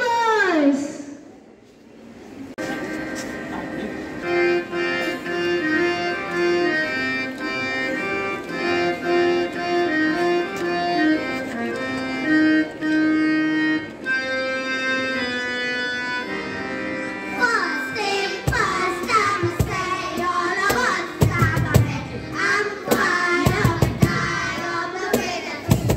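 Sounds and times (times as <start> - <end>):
keyboard melody: 2.6 - 25.9.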